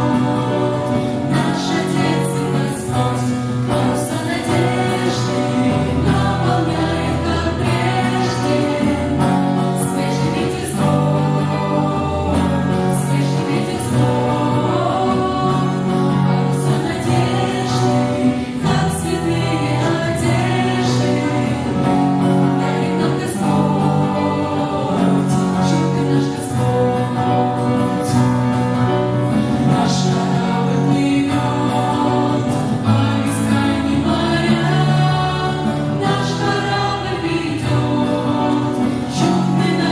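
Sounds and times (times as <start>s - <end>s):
choir singing with accompaniment: 0.0s - 39.9s.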